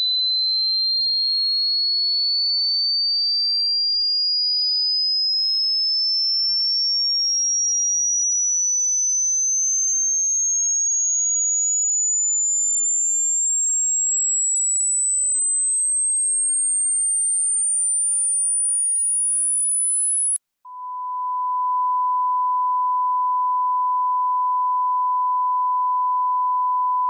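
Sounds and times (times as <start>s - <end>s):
high-pitched sine whistle rising: 0.0s - 27.0s.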